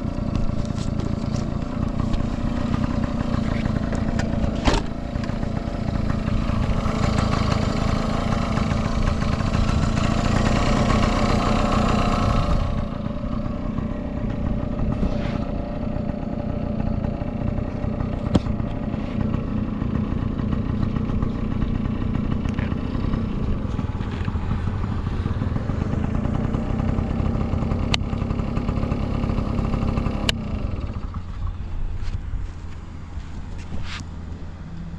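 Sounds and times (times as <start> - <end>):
scooter engine running: 0.0 - 34.9.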